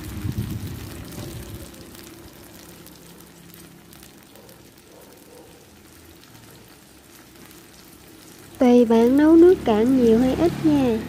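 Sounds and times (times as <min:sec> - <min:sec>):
sauce simmering in a pan: 0:00.0 - 0:11.0.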